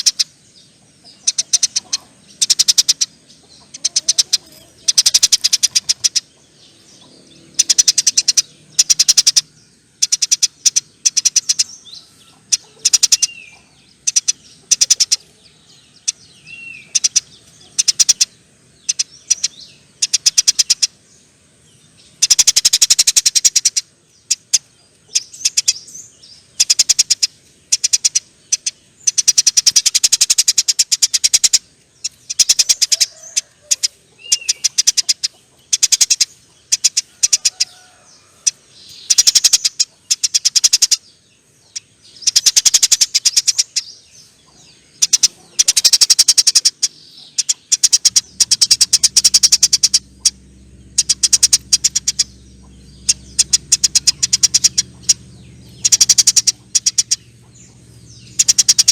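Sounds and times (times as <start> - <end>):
sparrow short chirps: 0.0 - 0.4, 1.1 - 21.0, 22.0 - 37.8, 38.4 - 58.9
sparrow chattering rattle: 0.0 - 58.9.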